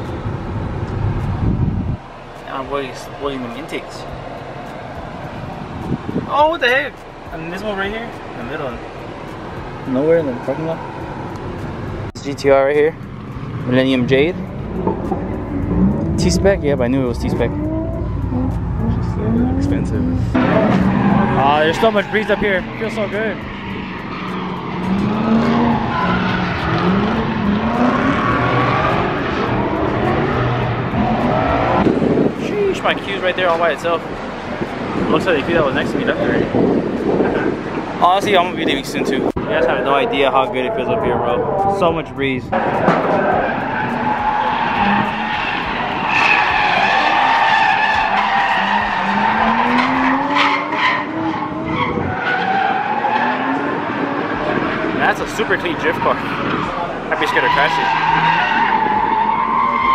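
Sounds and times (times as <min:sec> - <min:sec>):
car engines revving: 0:00.0 - 0:59.9
tyres skidding: 0:00.0 - 0:59.9.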